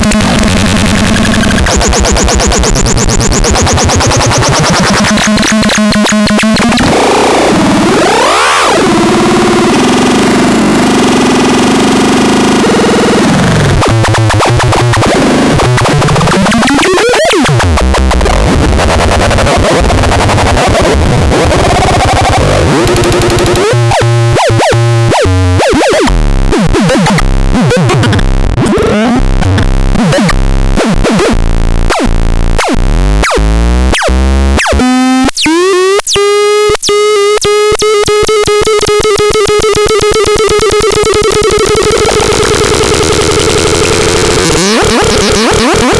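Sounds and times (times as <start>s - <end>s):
harsh synthesizer noise: 0.0s - 45.9s.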